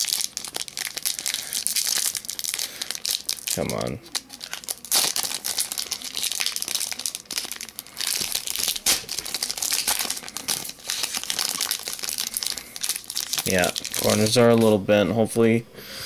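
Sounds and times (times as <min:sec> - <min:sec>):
foil wrapper crinkling: 0:00.0 - 0:14.8.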